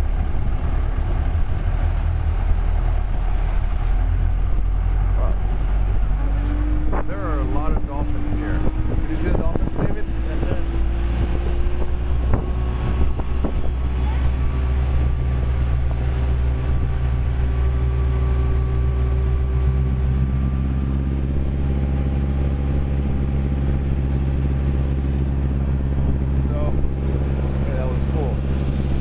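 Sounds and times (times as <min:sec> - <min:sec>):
faint rising whine: 0:00.0 - 0:29.0
motorboat engine running: 0:00.0 - 0:29.0
rushing water: 0:00.0 - 0:29.0
wind: 0:00.0 - 0:29.0.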